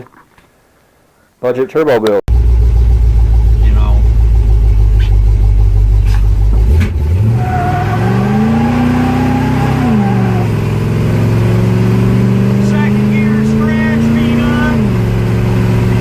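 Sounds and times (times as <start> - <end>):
car engine revving and idling: 2.3 - 16.0.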